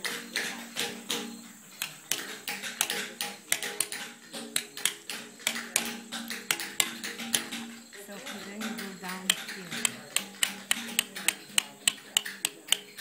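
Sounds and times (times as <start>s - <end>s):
hammer striking chisel on stone: 0.0s - 13.0s.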